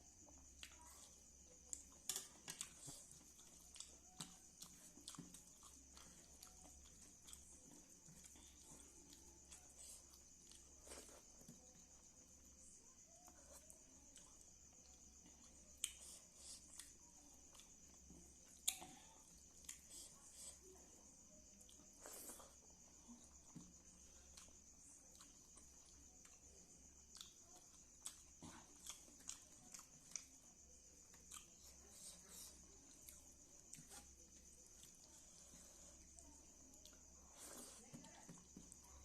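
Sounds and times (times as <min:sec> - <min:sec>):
person chewing soft food: 0:00.1 - 0:39.0.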